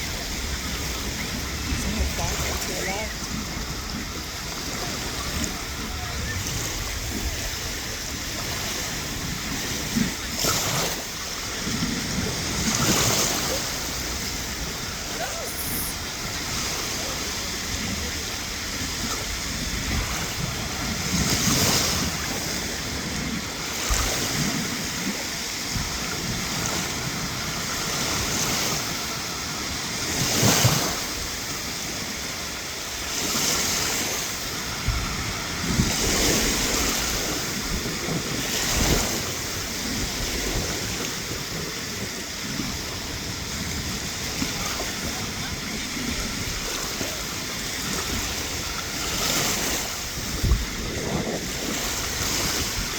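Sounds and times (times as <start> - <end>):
waves breaking on a beach: 0.0 - 52.9
wind buffeting microphone: 0.0 - 52.9.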